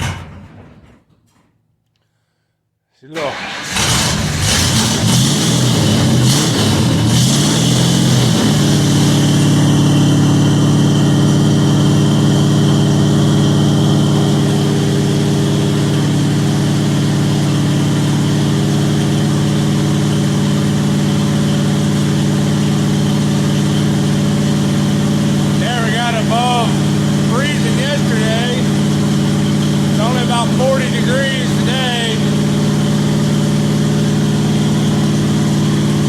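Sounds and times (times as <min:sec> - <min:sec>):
engine idling unevenly: 0:04.4 - 0:36.0.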